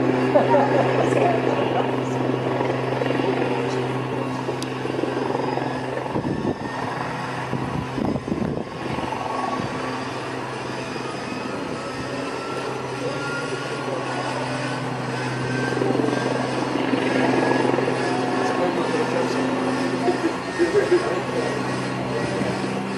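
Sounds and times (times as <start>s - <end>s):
low mechanical drone: 0.0s - 22.9s.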